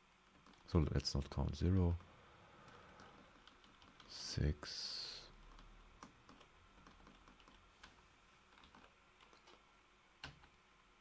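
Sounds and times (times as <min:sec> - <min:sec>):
faint computer keyboard typing: 0:00.2 - 0:04.4, 0:05.3 - 0:09.6, 0:10.2 - 0:10.6.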